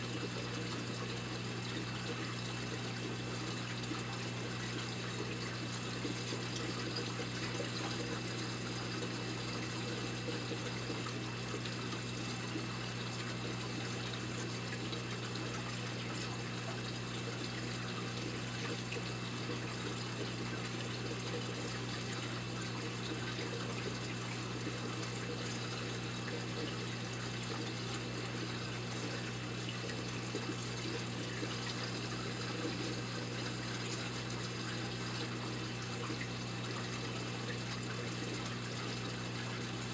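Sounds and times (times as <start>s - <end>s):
low pump hum: 0.0s - 39.9s
water trickling: 0.0s - 39.9s.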